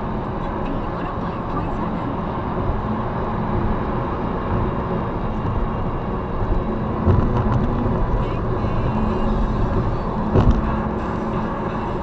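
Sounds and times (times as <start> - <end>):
car road and tyre noise: 0.0 - 12.0
low rumble: 0.0 - 12.0.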